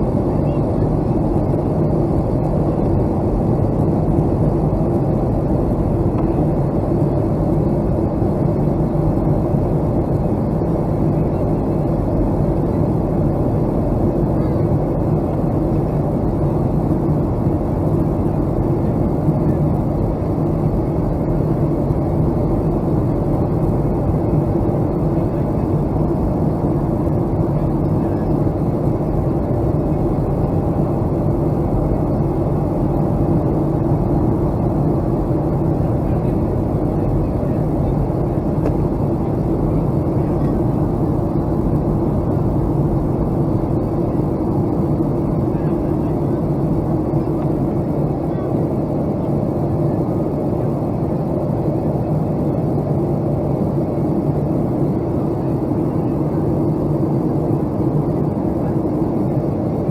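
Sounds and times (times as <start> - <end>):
jet engines droning: 0.0 - 59.9.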